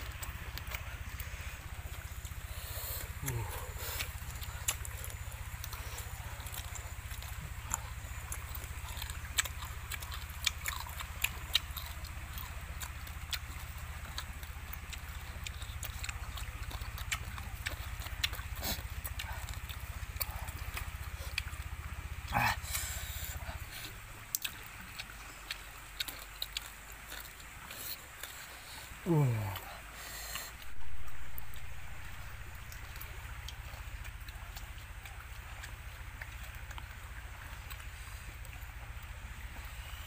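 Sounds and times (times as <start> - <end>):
chewing and crunching: 0.0 - 40.0.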